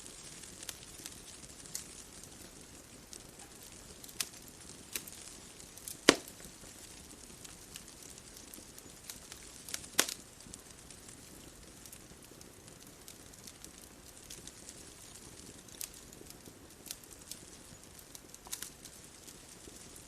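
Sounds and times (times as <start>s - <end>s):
fire pops and snaps: 0.0s - 20.0s
soft steady hiss: 0.0s - 20.0s
wood fire crackling: 0.0s - 20.0s.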